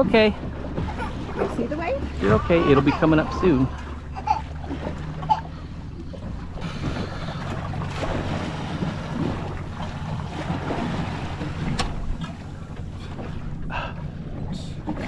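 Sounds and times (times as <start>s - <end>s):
water washing around boat: 0.0s - 15.0s.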